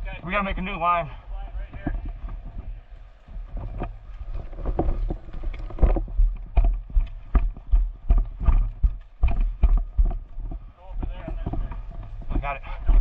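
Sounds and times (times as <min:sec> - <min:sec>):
footsteps: 0:01.0 - 0:13.0.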